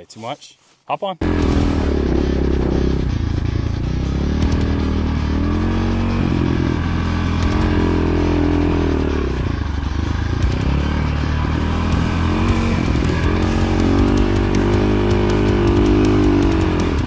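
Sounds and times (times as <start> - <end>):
background music: 1.2 - 17.0
dirt bike engine revving: 1.2 - 17.0.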